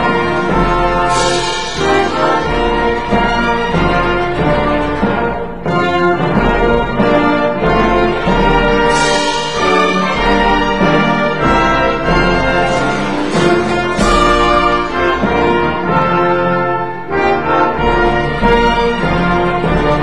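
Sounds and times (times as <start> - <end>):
orchestral brass music: 0.0 - 20.0.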